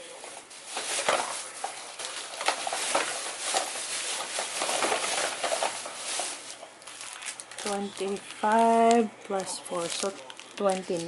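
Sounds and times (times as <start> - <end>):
plastic pouches crinkling: 0.5 - 11.0.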